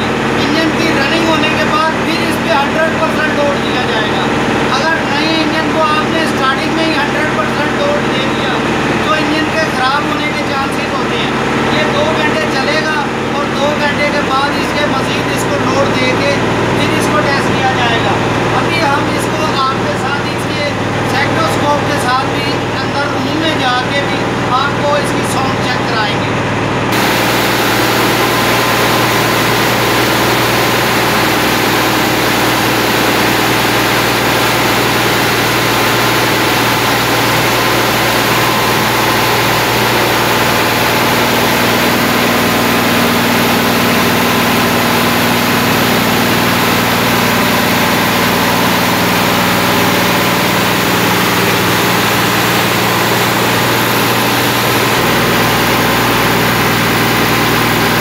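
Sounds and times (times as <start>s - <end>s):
engine droning under load: 0.0s - 58.0s.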